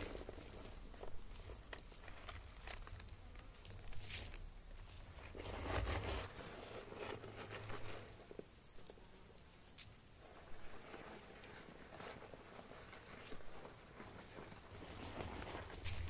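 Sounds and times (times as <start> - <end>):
rustling and crinkling of handling: 0.0 - 16.0.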